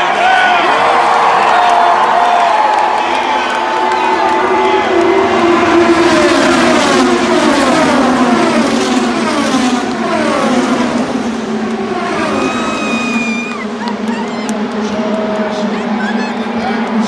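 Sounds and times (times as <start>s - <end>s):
drone of race car pack: 0.0s - 17.0s
race cars passing at speed: 0.1s - 17.0s.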